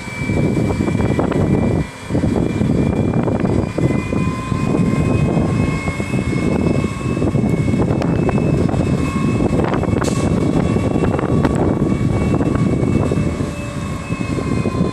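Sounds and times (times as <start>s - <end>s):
garbage truck engine running: 0.0s - 14.9s
thin steady whine: 0.0s - 14.9s.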